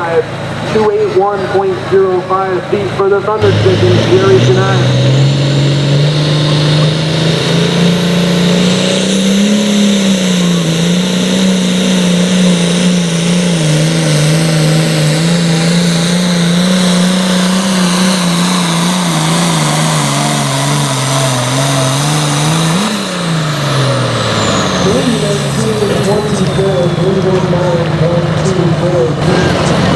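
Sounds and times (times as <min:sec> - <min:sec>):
diesel tractor engine running: 0:00.0 - 0:29.9
engine revving: 0:00.0 - 0:29.9.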